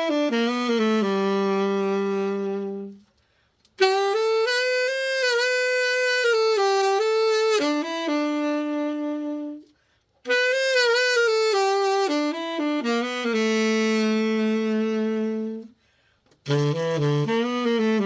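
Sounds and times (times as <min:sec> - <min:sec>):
tenor saxophone playing: 0:00.0 - 0:18.0.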